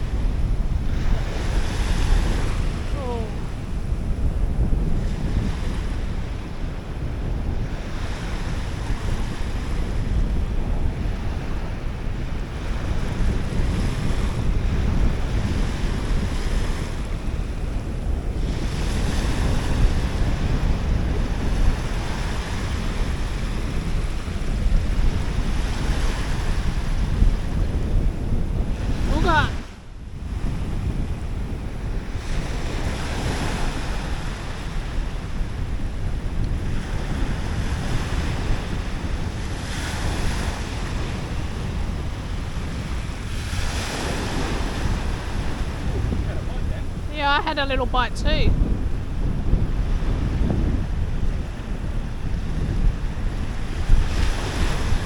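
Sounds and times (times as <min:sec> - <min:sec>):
waves washing on shore: 0:00.0 - 0:55.0
wind buffeting microphone: 0:00.0 - 0:55.0.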